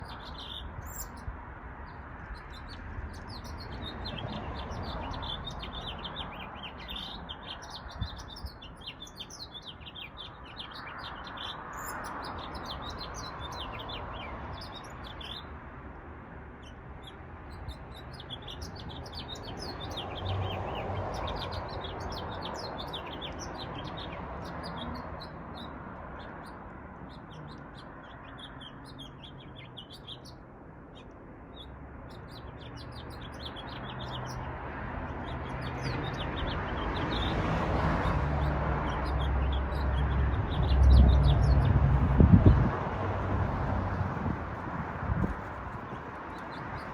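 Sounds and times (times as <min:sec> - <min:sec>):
small birds chirping: 0:00.0 - 0:15.7, 0:16.3 - 0:46.9.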